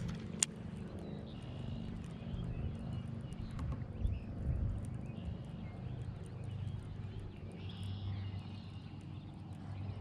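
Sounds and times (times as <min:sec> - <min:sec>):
birds chirping: 0:00.8 - 0:10.0.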